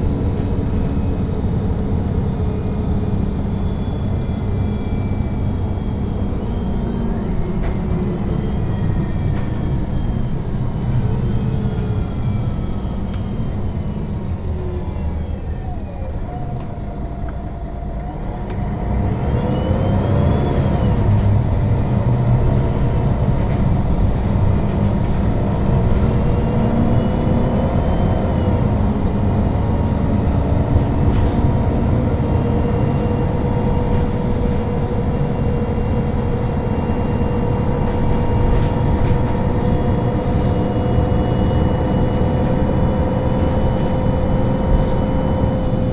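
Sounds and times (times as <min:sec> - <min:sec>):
bus diesel engine with whine: 0:00.0 - 0:45.9.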